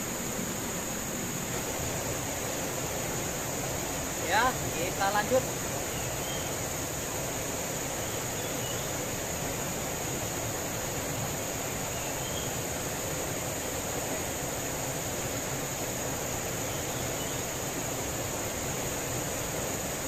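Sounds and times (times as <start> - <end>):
high-pitched insect drone: 0.0 - 20.0
river rapids rushing over rocks: 0.0 - 20.0.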